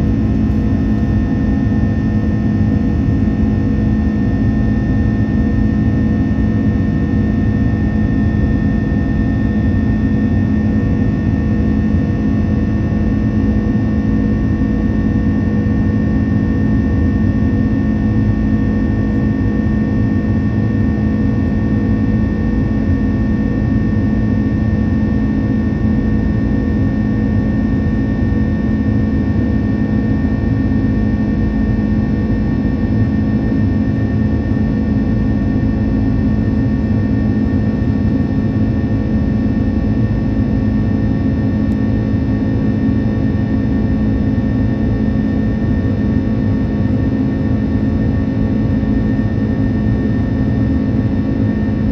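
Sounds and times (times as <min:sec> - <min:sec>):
jet engines droning: 0:00.0 - 0:51.9.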